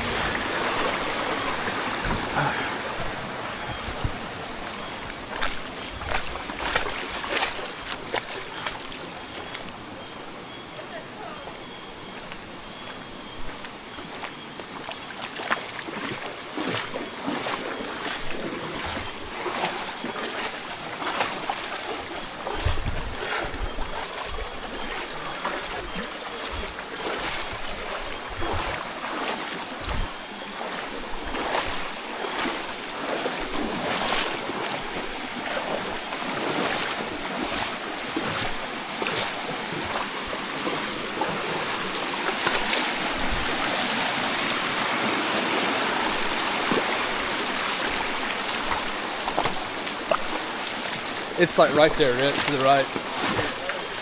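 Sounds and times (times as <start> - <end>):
rushing creek water: 0.0 - 54.0.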